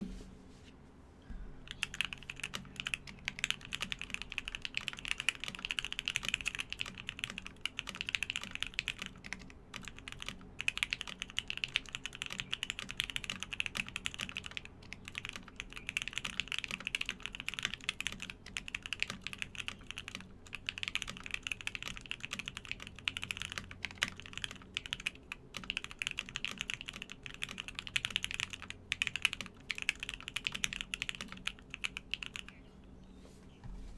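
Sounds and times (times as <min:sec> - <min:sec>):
faint low background hum: 0:00.0 - 0:33.9.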